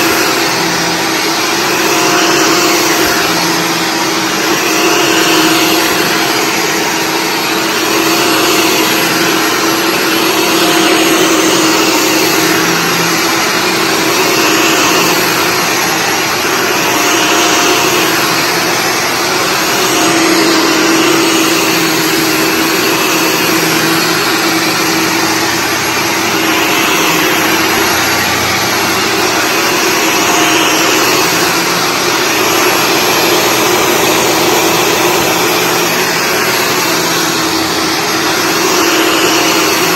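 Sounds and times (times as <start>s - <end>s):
upright vacuum running on carpet: 0.0s - 39.9s.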